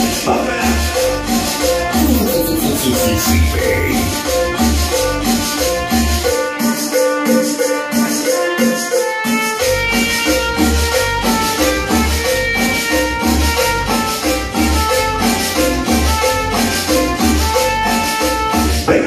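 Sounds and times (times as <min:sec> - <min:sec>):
loud dance music with beat: 0:00.0 - 0:19.0.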